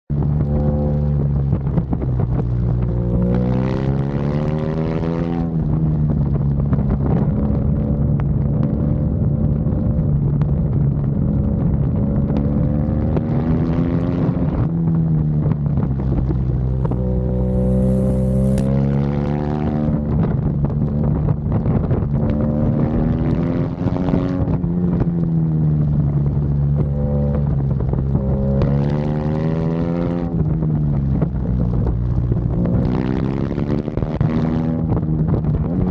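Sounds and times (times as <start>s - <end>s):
motorcycle engine accelerating: 0.1s - 35.9s
wind on microphone: 0.1s - 35.9s.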